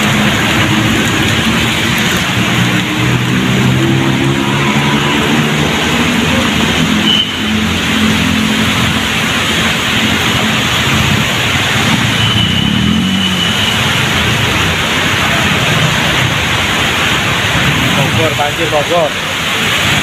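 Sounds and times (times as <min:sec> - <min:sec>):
heavy rain on flooded road: 0:00.0 - 0:20.0
motorbike and car engines: 0:00.0 - 0:20.0.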